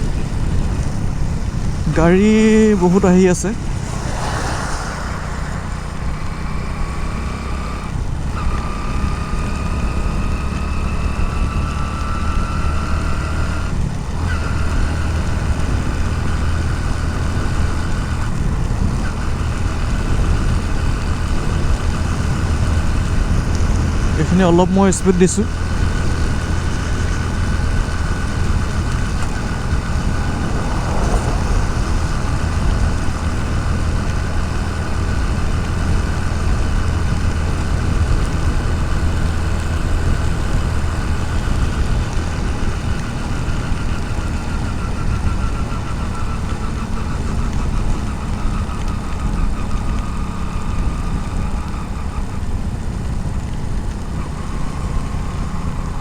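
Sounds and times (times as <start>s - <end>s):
motorcycle engine running: 0.0s - 4.4s, 5.1s - 56.0s
road and wind noise: 0.0s - 56.0s.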